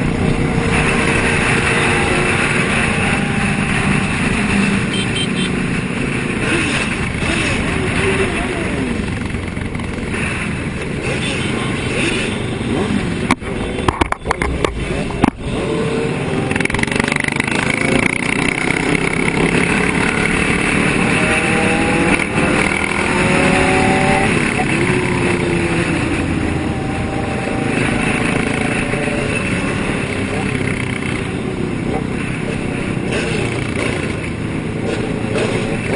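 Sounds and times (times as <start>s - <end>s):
motorcycle engines revving: 0.0s - 35.9s.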